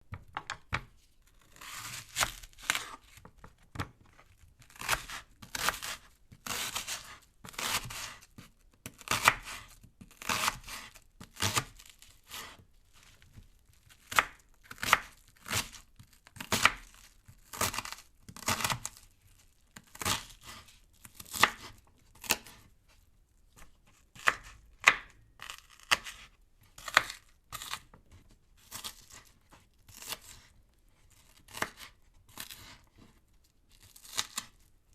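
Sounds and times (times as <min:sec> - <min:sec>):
knife slicing onion: 0:00.2 - 0:12.6, 0:13.8 - 0:19.0, 0:19.8 - 0:22.7, 0:23.6 - 0:30.5, 0:31.1 - 0:34.6.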